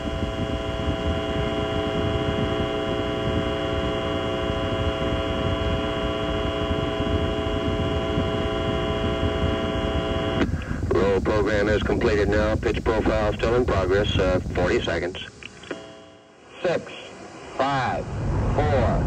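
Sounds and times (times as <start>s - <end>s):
hum of held tones: 0.0s - 19.0s.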